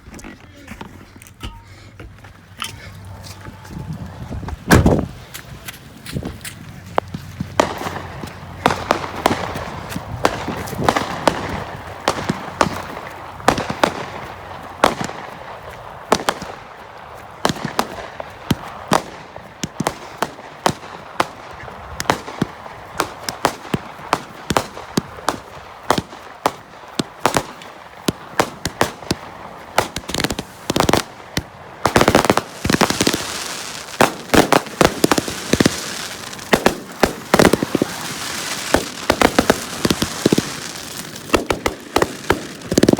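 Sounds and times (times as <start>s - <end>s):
fireworks sharp bangs: 4.6s - 5.4s, 7.0s - 42.9s.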